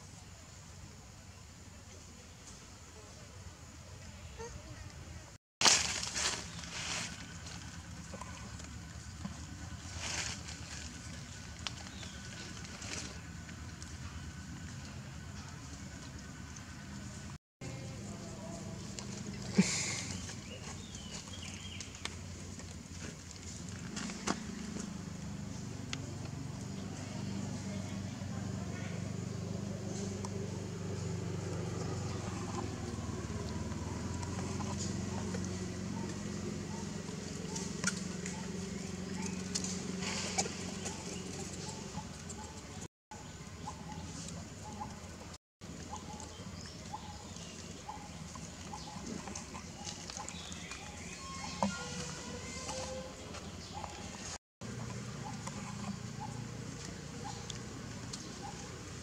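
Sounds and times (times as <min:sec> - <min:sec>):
outdoor background noise: 0:00.0 - 0:59.0
low engine-like hum: 0:05.9 - 0:59.0.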